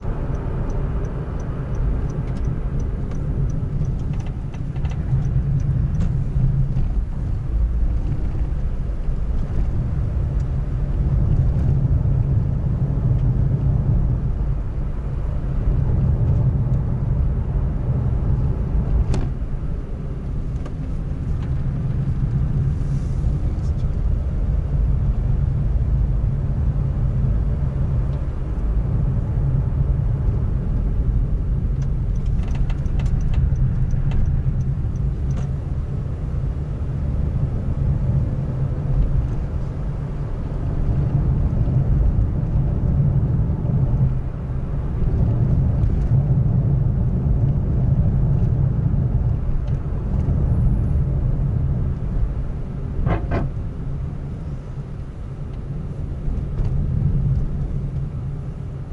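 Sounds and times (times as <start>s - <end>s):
road and engine rumble: 0.0s - 58.9s.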